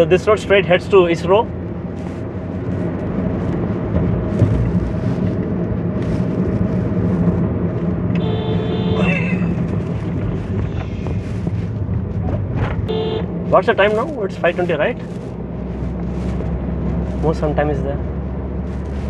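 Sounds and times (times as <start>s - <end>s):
car engine and tyre hum: 0.0s - 19.0s.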